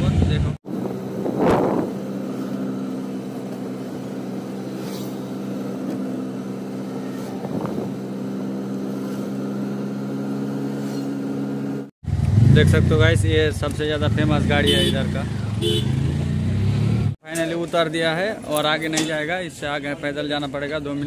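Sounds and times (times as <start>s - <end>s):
auto-rickshaw motor humming: 0.0s - 21.0s.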